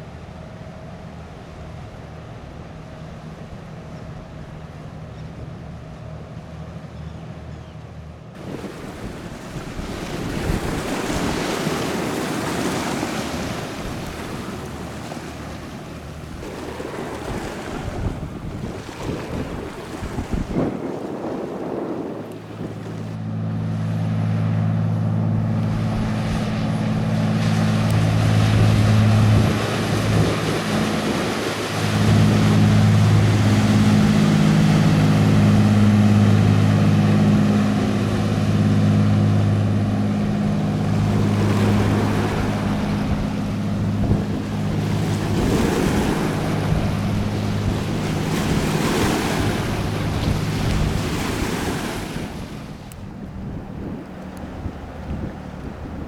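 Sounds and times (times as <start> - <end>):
boat diesel engine droning: 0.0 - 56.0
wind gusting on microphone: 8.4 - 56.0.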